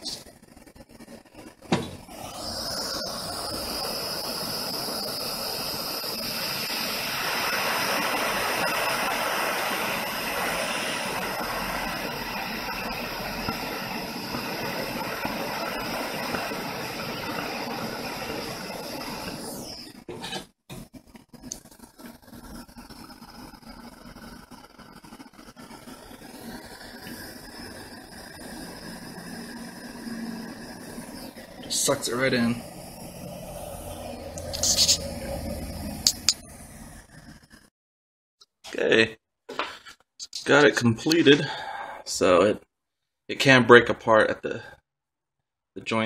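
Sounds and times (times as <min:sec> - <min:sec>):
gas torch flame hissing: 0:00.0 - 0:37.6.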